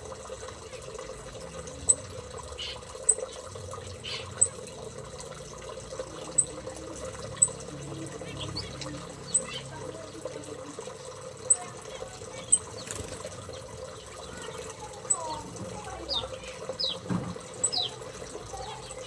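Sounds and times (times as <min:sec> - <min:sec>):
birds chirping: 0:00.0 - 0:19.0
birds twittering: 0:00.0 - 0:19.0
running water trickling: 0:00.0 - 0:19.0.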